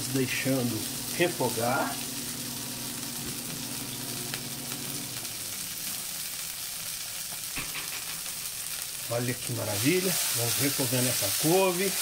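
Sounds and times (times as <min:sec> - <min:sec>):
greens sizzling in oil: 0:00.0 - 0:12.0.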